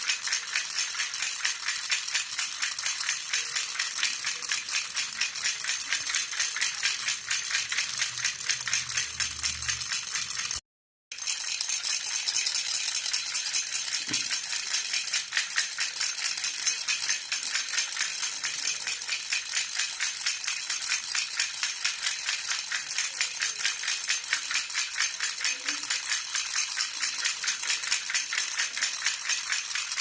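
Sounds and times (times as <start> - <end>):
baby rattle jingling: 0.0 - 10.6, 11.2 - 30.0.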